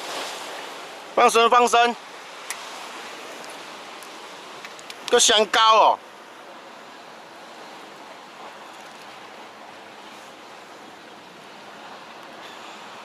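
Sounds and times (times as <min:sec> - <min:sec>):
sea waves on rocky shore: 0:00.0 - 0:13.0.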